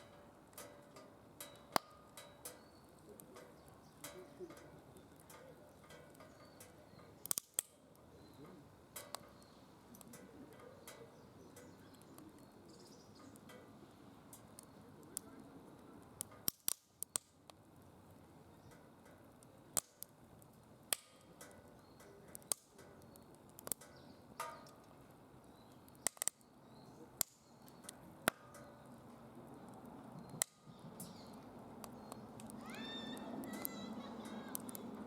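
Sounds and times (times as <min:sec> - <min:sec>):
wood fire crackles and pops: 0:00.0 - 0:35.0.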